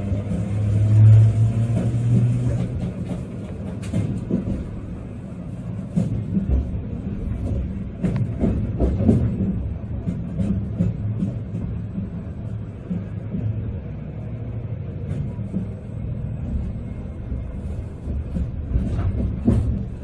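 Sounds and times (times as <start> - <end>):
streetcar motor hum: 0.0 - 20.0
streetcar rumble and rattle: 0.0 - 20.0.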